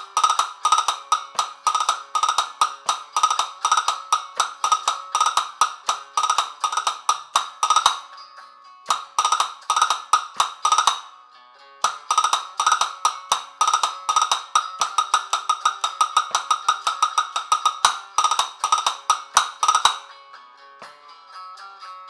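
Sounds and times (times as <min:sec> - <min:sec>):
castanets clicking: 0:00.0 - 0:08.1, 0:08.9 - 0:11.1, 0:11.8 - 0:20.1.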